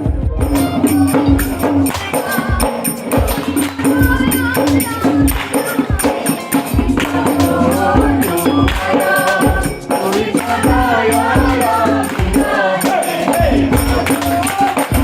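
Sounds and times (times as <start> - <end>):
hand percussion beat: 0.0 - 15.0
women singing together: 0.8 - 15.0.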